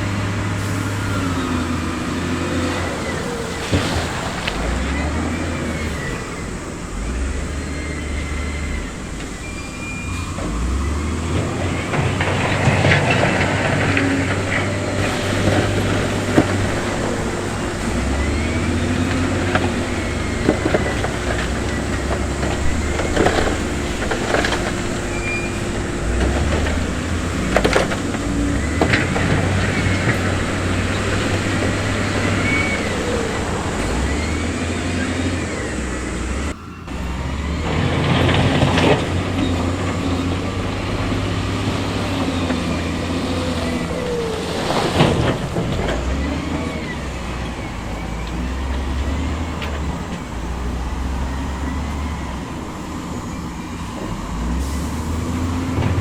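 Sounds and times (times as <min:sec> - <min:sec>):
diesel machinery rumbling: 0:00.0 - 0:56.0.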